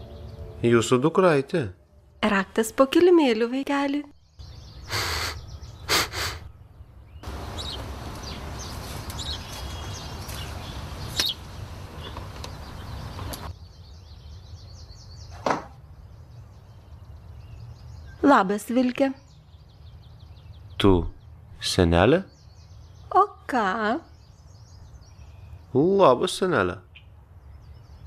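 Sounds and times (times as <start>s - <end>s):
birds chirping faintly: 0.0s - 28.0s.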